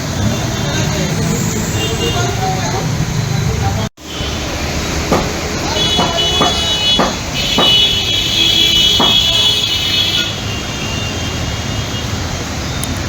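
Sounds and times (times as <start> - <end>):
street noise with vehicles: 0.0 - 13.0.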